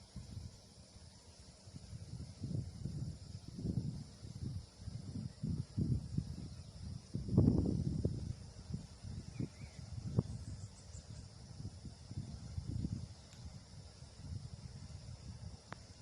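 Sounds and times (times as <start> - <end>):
faint high-pitched hiss: 0.0 - 16.0
wind buffeting microphone: 1.7 - 16.0.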